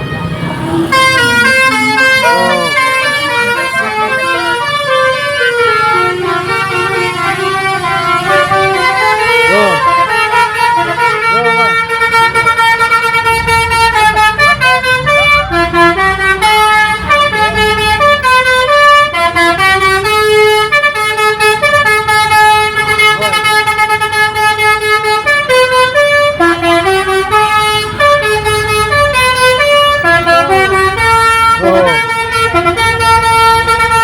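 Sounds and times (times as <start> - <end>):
engine and traffic rumble: 0.0 - 34.0
multi-note musical air horn: 0.2 - 34.0.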